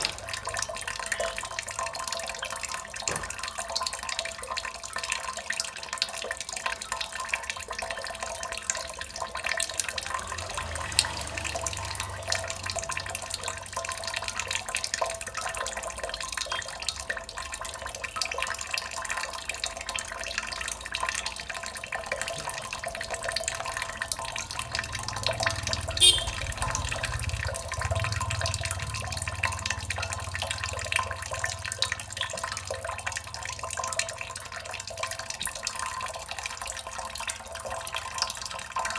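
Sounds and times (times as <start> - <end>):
water dripping: 0.0 - 38.9.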